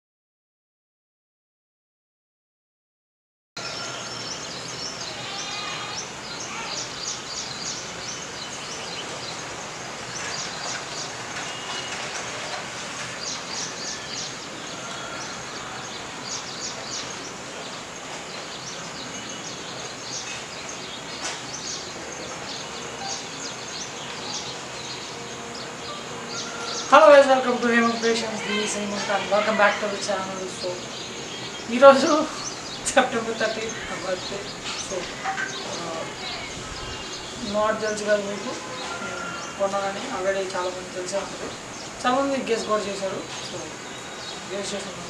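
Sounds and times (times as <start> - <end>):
outdoor background noise: 3.6 - 45.0.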